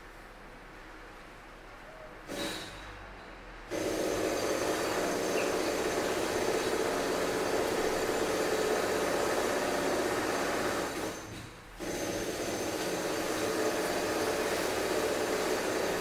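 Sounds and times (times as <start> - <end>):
construction machinery humming: 0.2 - 16.0.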